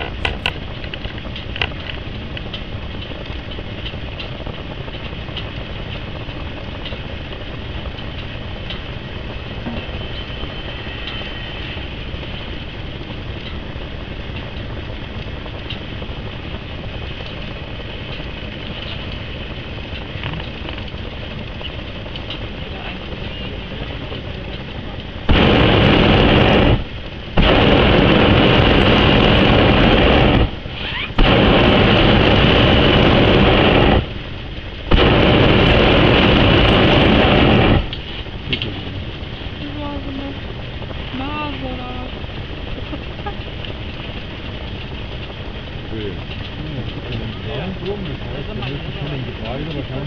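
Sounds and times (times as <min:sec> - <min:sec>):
low rushing: 0:00.0 - 0:50.0
propane burner roaring: 0:00.0 - 0:50.0.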